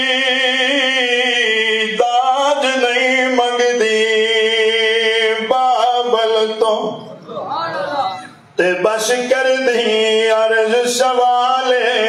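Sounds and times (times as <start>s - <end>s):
man singing amplified: 0.0s - 7.2s, 8.2s - 12.0s.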